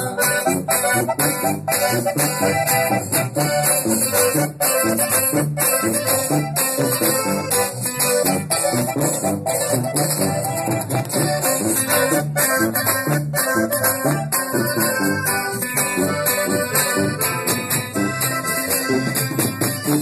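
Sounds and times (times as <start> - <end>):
instrumental cumbia music: 0.0 - 20.0.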